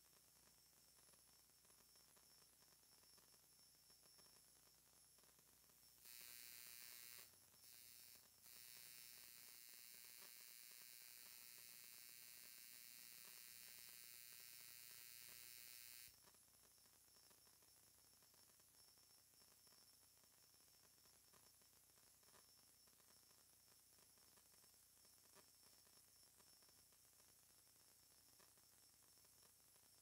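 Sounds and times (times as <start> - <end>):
faint high-pitched hiss: 0.0 - 30.0.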